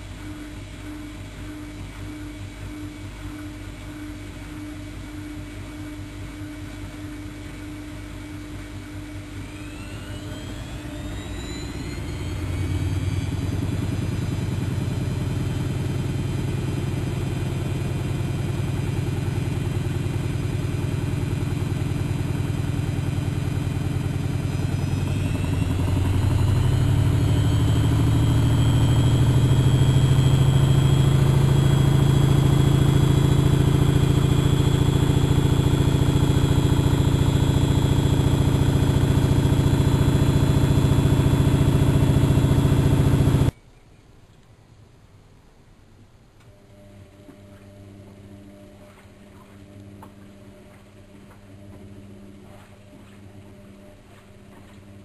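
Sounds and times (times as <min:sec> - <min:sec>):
motor whine rising in pitch: 0:00.0 - 0:43.6, 0:46.5 - 0:55.0
washing machine spinning up: 0:00.0 - 0:43.6, 0:46.5 - 0:55.0.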